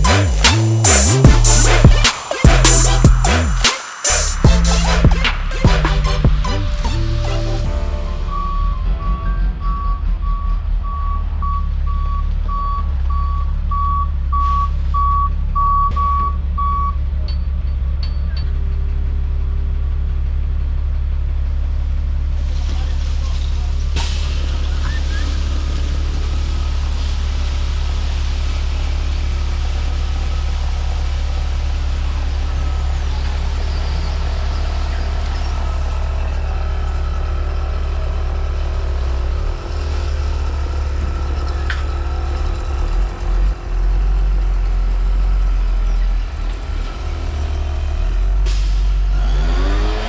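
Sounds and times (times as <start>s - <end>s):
truck engine rumbling: 0.0s - 50.0s.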